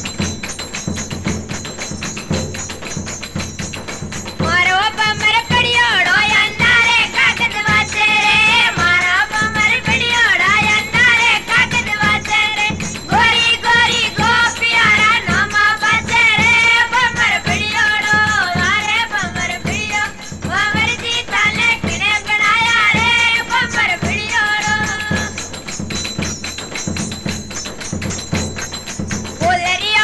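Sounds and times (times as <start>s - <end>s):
steady drum beat: 0.0s - 30.0s.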